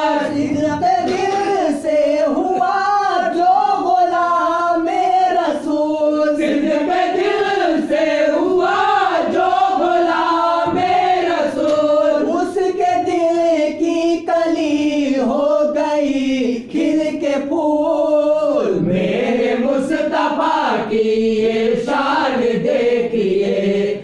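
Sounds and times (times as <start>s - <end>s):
men singing: 0.0s - 24.0s.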